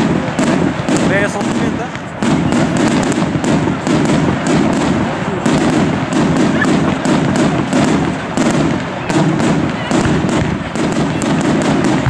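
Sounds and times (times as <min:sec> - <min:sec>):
continuous rumble: 0:00.0 - 0:12.0
fireworks bangs: 0:00.0 - 0:12.0.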